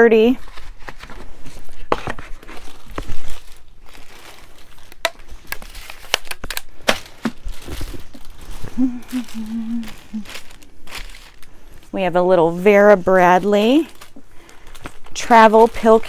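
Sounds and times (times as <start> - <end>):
packaging crinkling and rustling: 0.3 - 16.0.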